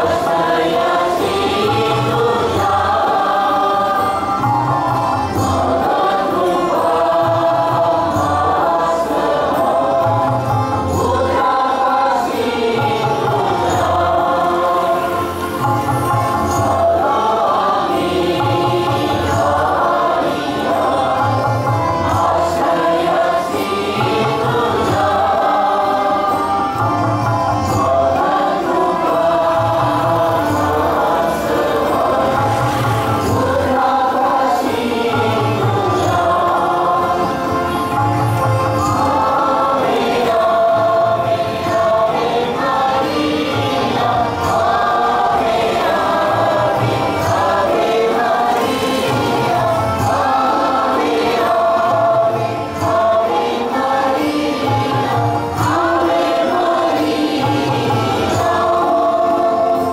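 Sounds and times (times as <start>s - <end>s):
crowd singing a hymn: 0.0s - 59.9s
instrumental accompaniment: 0.0s - 59.9s.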